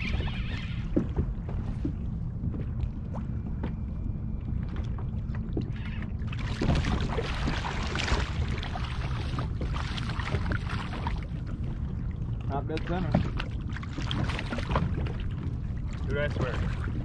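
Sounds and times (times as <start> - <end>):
water lapping against kayak: 0.0 - 17.0
wind rumbling on microphone: 0.0 - 17.0.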